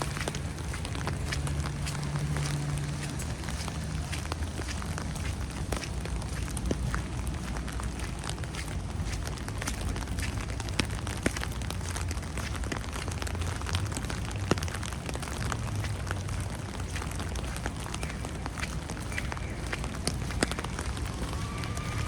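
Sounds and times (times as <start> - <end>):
wet snow pattering: 0.0 - 22.0.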